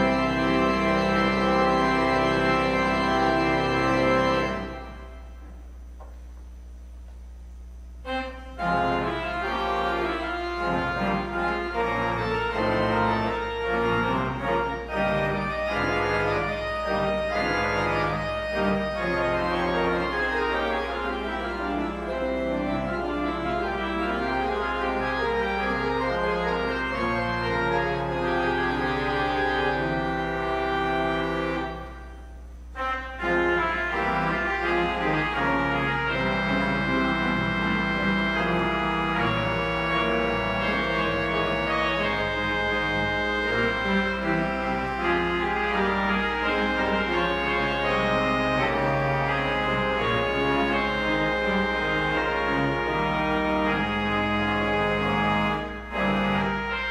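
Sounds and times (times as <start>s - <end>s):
church organ chords: 0.0s - 56.9s.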